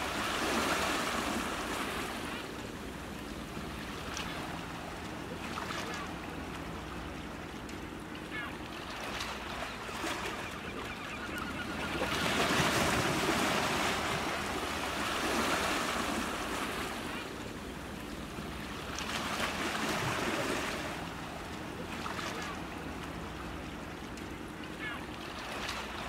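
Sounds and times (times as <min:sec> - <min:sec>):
sea waves washing on shore: 0:00.0 - 0:26.0.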